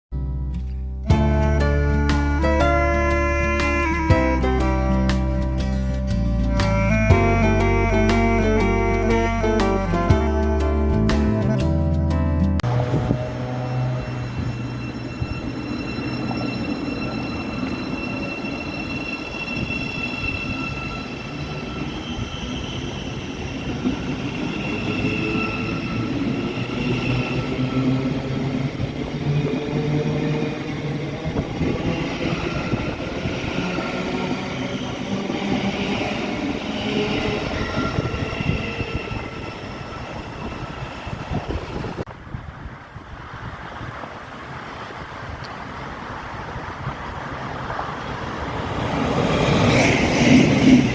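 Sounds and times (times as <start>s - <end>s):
steady train whine: 1.1s - 11.1s, 12.6s - 50.9s
train wheels rumbling on rails: 1.1s - 50.9s.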